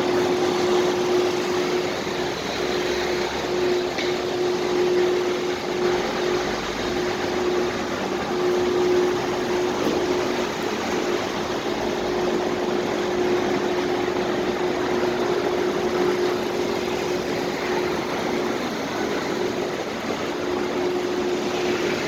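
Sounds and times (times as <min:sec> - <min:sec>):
constant machinery hum: 0:00.0 - 0:22.0.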